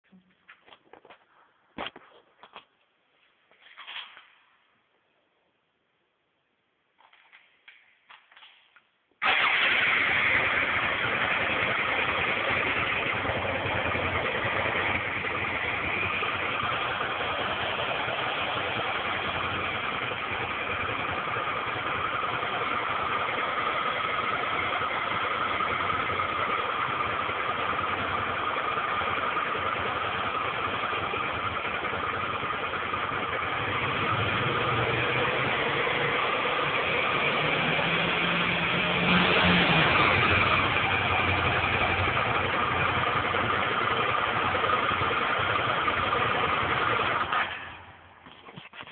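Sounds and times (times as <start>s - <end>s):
motorcycle engine idling: 9.2s - 48.8s.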